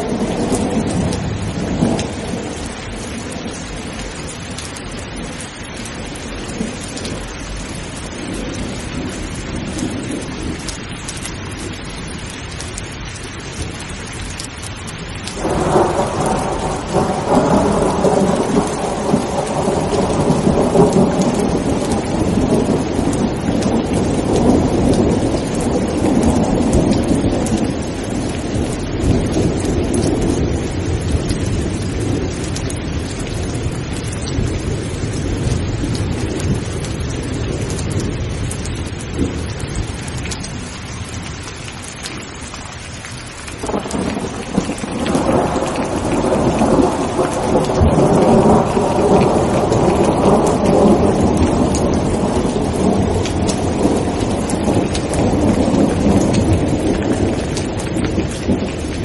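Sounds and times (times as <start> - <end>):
thunder rolling: 0.0 - 11.8, 15.3 - 40.8, 43.6 - 59.0
heavy rain: 0.0 - 59.0.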